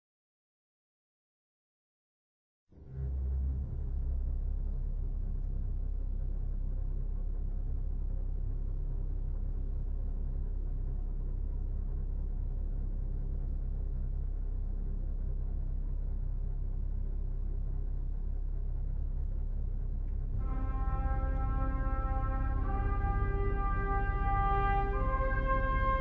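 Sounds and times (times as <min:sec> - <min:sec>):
low steady drone: 0:02.8 - 0:26.0.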